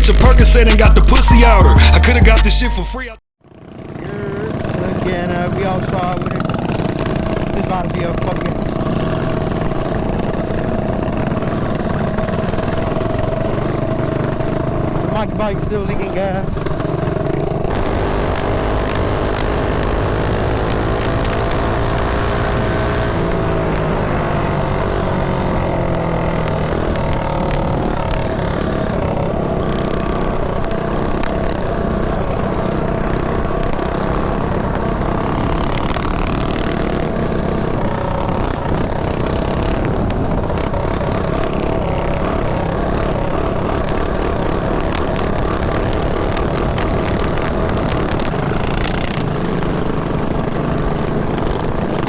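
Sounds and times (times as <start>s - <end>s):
mini bike engine running: 3.4s - 52.0s.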